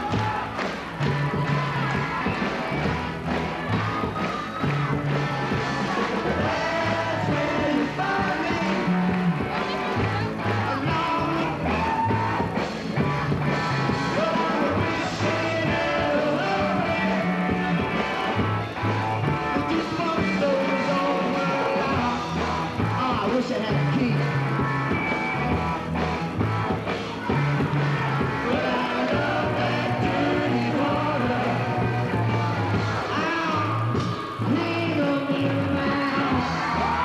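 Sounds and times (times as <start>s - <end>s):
bass guitar: 0.0s - 37.0s
drums: 0.0s - 37.0s
electric guitars: 0.0s - 37.0s.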